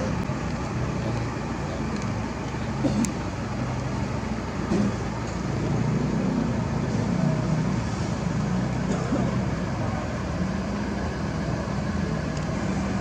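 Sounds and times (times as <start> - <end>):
heavy diesel engines: 0.0 - 13.0
road traffic rumble: 0.0 - 13.0.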